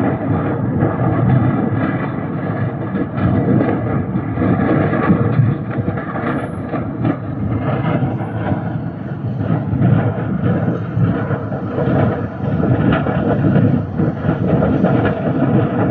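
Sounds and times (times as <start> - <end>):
fire crackling and popping: 0.0 - 15.9
low rumble: 0.0 - 15.9.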